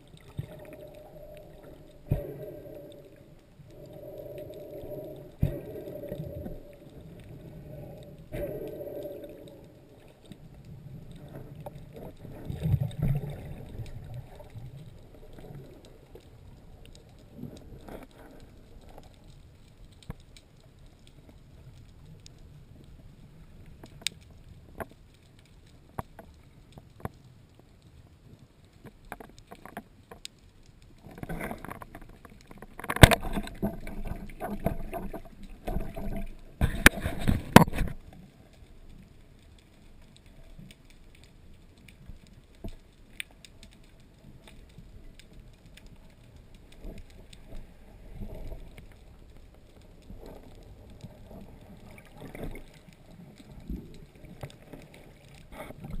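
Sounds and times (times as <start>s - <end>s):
faint underwater clicks and crackle: 0.0s - 56.0s.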